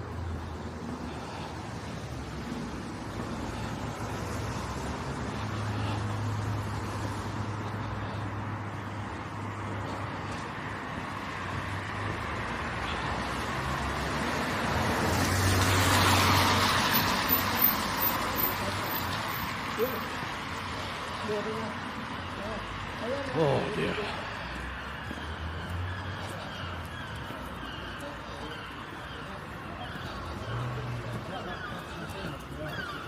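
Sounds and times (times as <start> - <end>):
traffic hum: 0.0 - 33.0.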